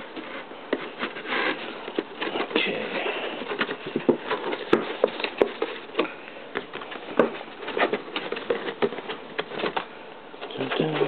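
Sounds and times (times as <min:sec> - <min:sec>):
cardboard box being handled: 0:00.0 - 0:09.9.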